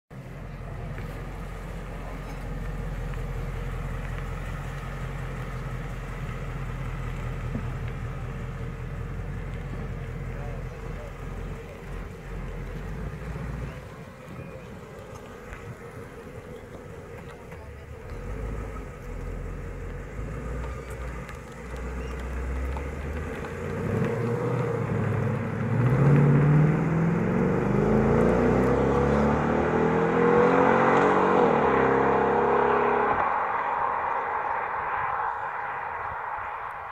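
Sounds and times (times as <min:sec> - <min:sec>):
car engine accelerating: 0:00.1 - 0:36.9.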